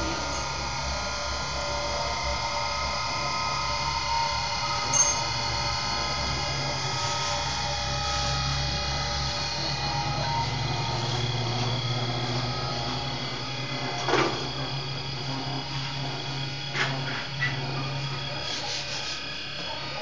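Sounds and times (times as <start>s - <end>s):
machine hum with whining tones: 0.0s - 20.0s.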